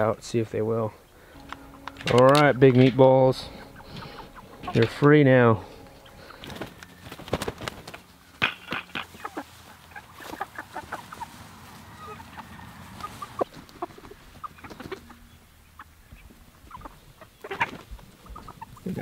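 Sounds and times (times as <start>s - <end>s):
chickens clucking and peeping: 0.0s - 19.0s.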